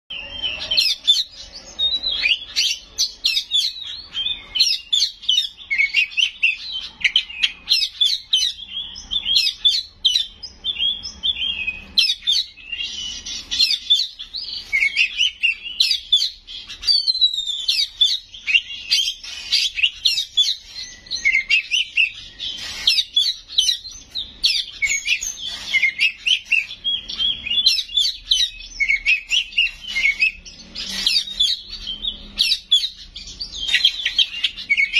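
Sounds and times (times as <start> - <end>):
bird singing varied whistles: 0.1 - 34.9.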